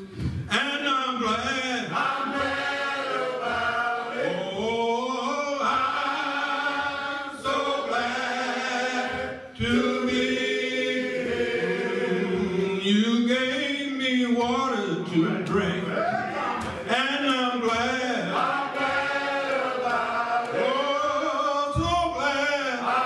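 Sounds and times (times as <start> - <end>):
men's choir singing: 1.2 - 23.0.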